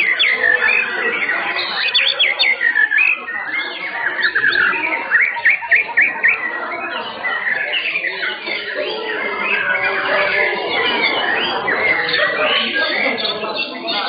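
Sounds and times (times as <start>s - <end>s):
birds singing whistled phrases: 0.0s - 14.0s.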